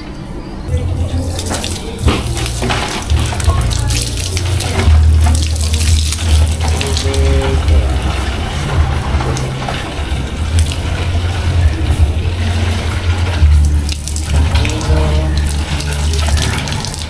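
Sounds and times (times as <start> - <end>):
steady low hum: 0.0 - 17.0
water pouring into plastic jug: 0.7 - 17.0.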